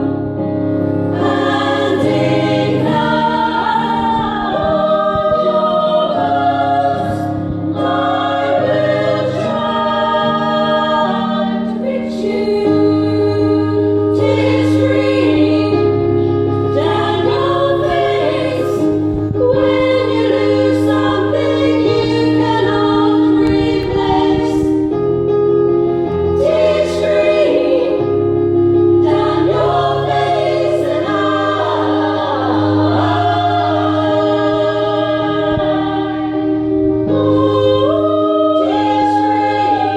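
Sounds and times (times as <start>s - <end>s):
women's choir singing: 0.0s - 25.1s, 25.9s - 39.9s
low held bass notes: 0.0s - 39.9s.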